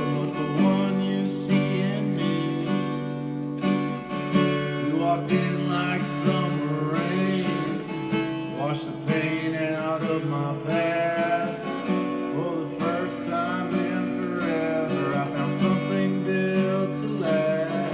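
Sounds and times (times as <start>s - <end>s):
acoustic guitar strummed and picked: 0.0s - 17.9s.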